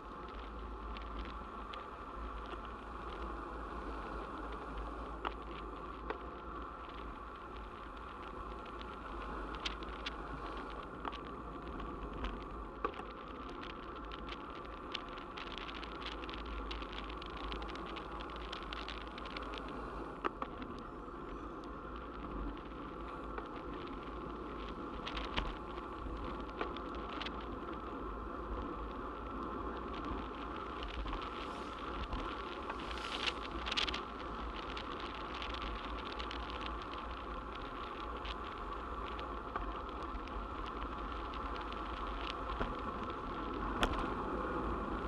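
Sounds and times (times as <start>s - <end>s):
bicycle clicks and rattles: 0.0s - 45.0s
wind and road noise: 0.0s - 45.0s.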